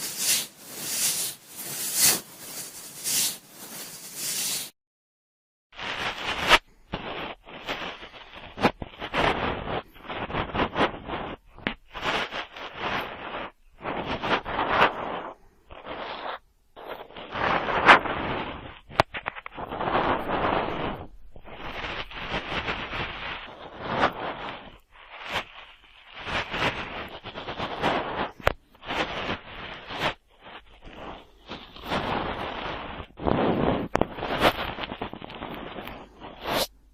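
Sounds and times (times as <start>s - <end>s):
cotton swab rubbing microphone: 0.0s - 4.8s, 5.8s - 36.9s.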